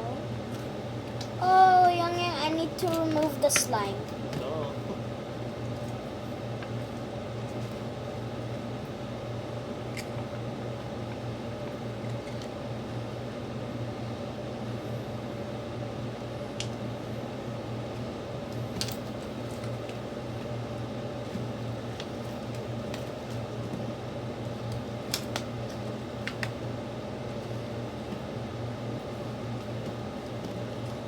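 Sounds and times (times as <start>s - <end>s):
room machinery hum: 0.0s - 31.0s.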